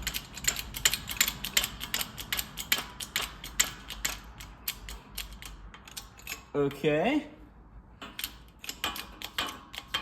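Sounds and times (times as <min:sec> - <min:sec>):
hand ratchet clicking: 0:00.0 - 0:06.5, 0:08.0 - 0:10.0.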